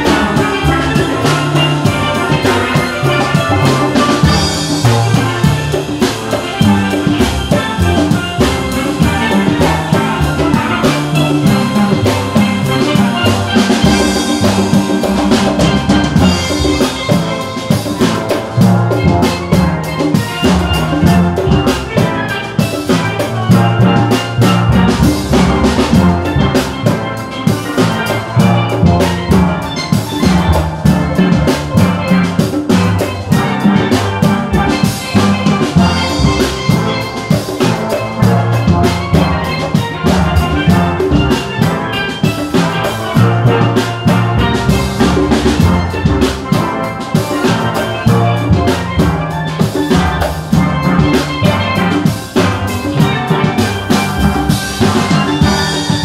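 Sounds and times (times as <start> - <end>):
drum kit with cymbals: 0.0 - 56.0
steel pans played: 0.0 - 56.0.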